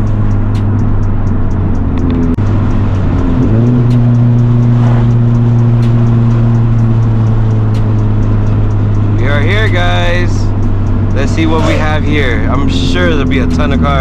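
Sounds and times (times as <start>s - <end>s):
car engine drone from inside: 0.0s - 14.0s.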